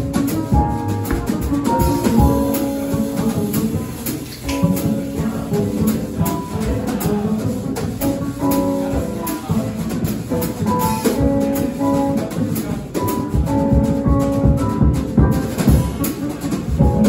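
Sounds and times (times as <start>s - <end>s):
drum kit with cymbal strokes: 0.0s - 17.0s
piano: 0.0s - 17.0s
upright bass: 0.0s - 17.0s.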